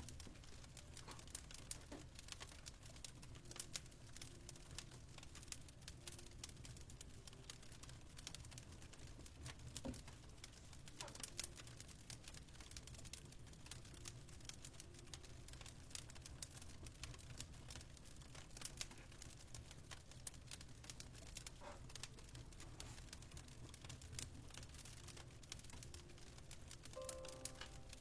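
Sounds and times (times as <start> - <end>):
fireplace crackling: 0.0 - 28.0.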